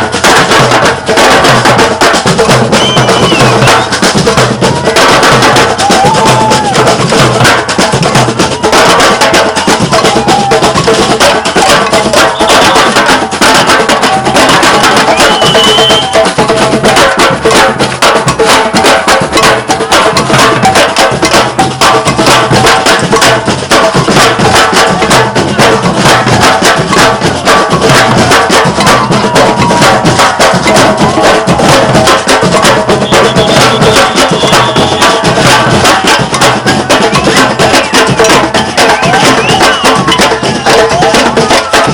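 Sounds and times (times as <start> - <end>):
samba drum ensemble: 0.0 - 41.9.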